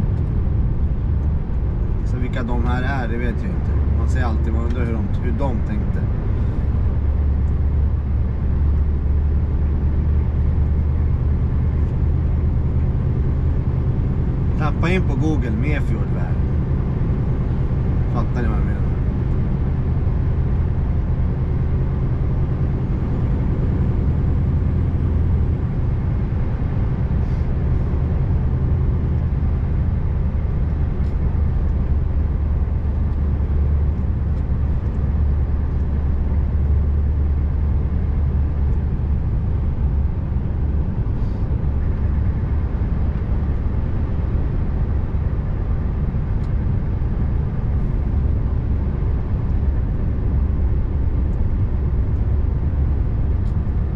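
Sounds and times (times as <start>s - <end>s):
road noise: 0.0s - 53.9s
truck engine droning: 0.0s - 53.9s.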